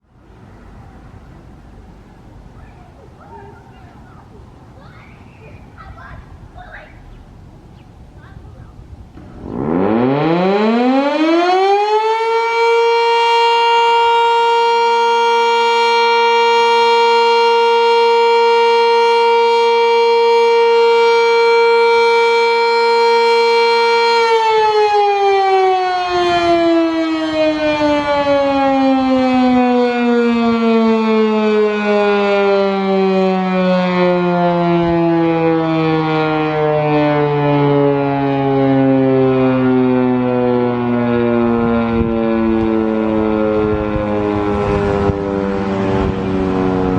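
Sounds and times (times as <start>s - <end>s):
civil defense siren: 9.2s - 46.9s.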